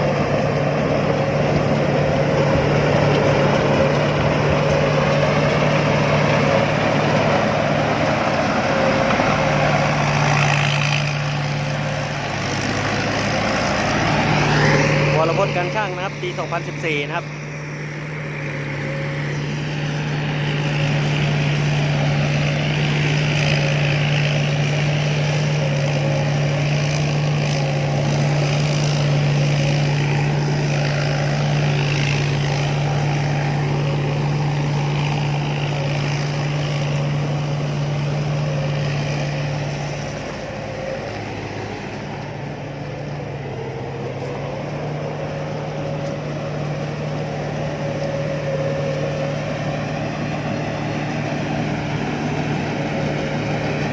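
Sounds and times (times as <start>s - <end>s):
combine harvester running: 0.0s - 53.9s.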